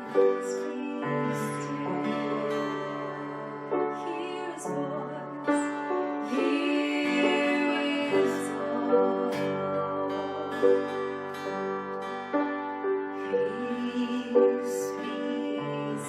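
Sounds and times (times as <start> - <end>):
woman singing: 0.0 - 10.9, 13.2 - 16.0
piano accompaniment: 0.0 - 16.0.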